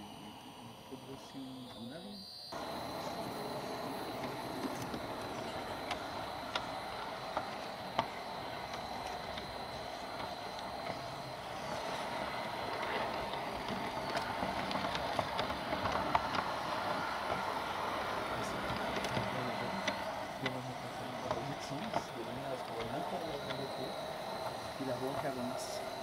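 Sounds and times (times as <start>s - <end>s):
model train rolling on track: 0.0s - 26.0s
thin high whine: 0.0s - 26.0s
track clicks: 0.0s - 26.0s.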